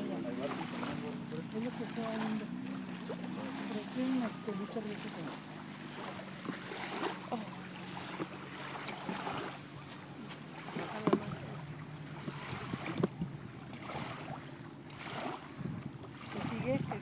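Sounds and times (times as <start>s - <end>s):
small waves lapping on shore: 0.0s - 17.0s.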